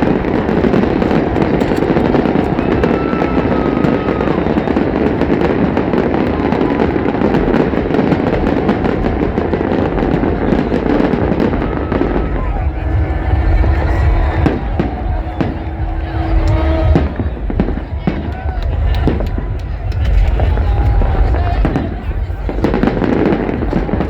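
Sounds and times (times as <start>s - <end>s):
fireworks crackling: 0.0s - 24.0s.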